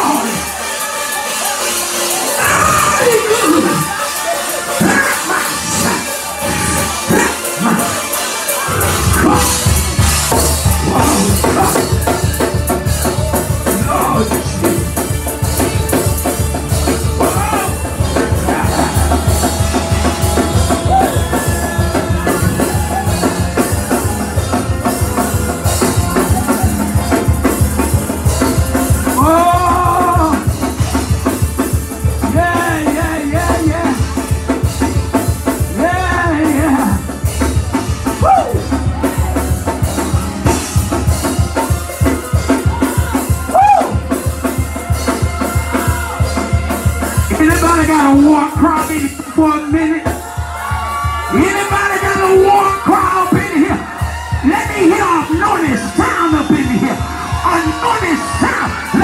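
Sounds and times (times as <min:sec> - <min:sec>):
fast praise music with drums: 0:00.0 - 0:59.0
voices shouting and singing: 0:00.0 - 0:59.0.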